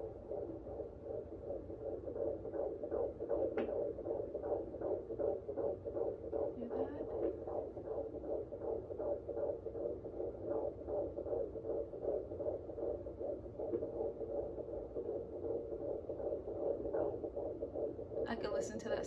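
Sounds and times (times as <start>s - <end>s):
fetal heartbeat on doppler speaker: 0.0s - 19.0s.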